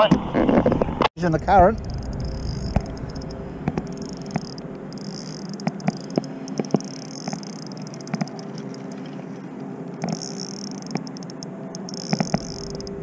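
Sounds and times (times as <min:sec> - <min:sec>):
fishing reel whirring: 0:01.8 - 0:13.0.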